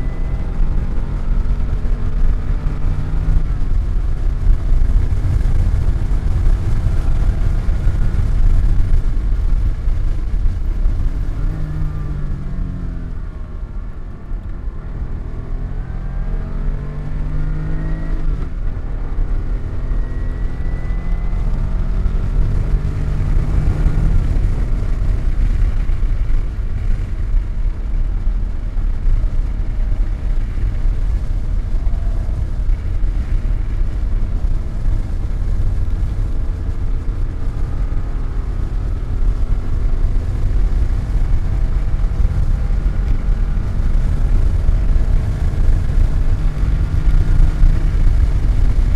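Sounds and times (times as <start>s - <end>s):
car engine accelerating hard: 0.0s - 48.9s
road and wind noise: 0.0s - 48.9s.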